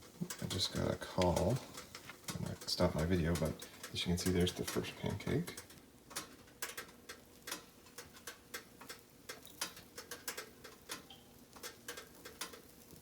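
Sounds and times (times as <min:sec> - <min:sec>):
pancakes crackling on a griddle: 0:00.0 - 0:13.0.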